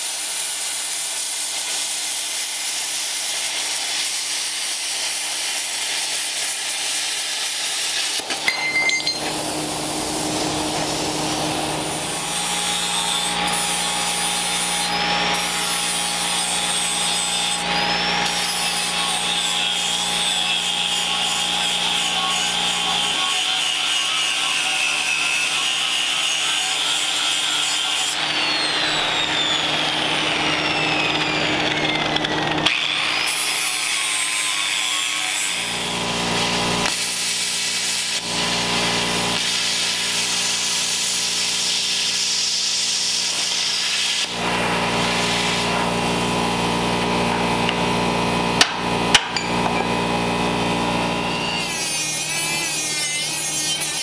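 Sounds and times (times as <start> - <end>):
power tool grinding metal: 0.0 - 54.0.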